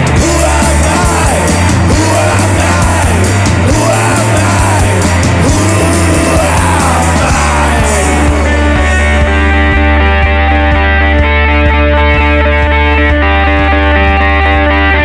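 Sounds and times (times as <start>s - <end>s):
rock band playing: 0.0s - 15.0s
sliding lead guitar line: 0.0s - 15.0s.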